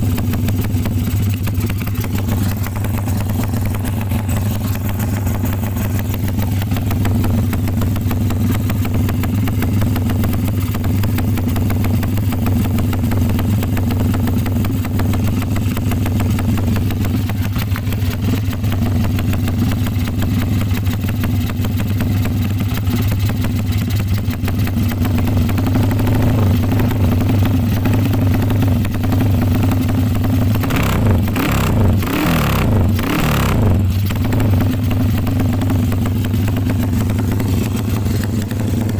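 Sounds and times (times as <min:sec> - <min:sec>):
engine idling with throttle blips: 0:00.0 - 0:38.9.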